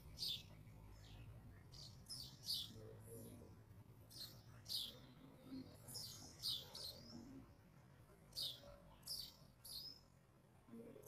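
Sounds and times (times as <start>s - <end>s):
small birds chirping: 0.0s - 7.6s, 8.2s - 10.2s.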